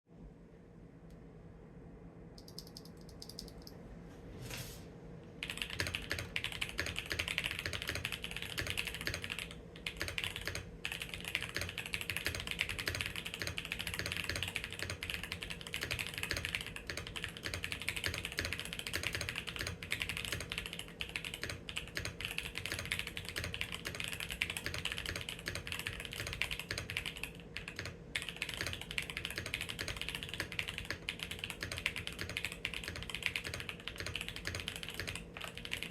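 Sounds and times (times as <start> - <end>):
fast typing on mechanical keyboard: 2.4 - 3.7, 5.4 - 35.9.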